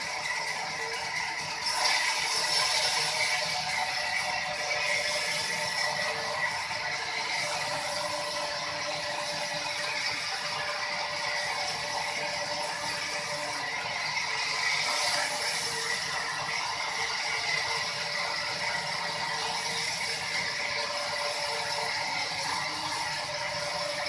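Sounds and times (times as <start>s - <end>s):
sawmill machinery whining: 0.0s - 24.0s.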